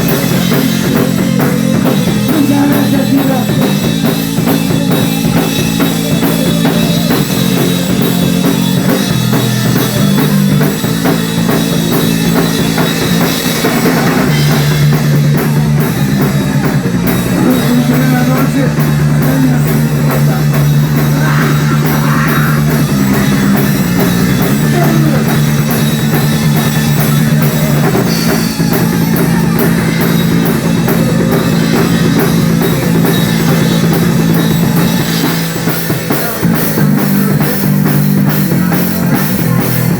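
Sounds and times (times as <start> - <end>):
bass line: 0.0 - 39.9
drum kit beat: 0.0 - 39.9
rock and roll band playing: 0.0 - 39.9.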